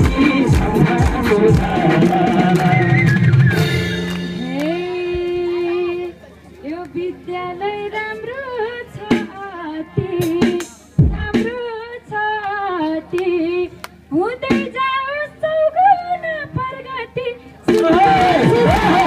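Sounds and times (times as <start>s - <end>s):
woman singing into microphone: 0.0s - 3.1s, 4.4s - 19.0s.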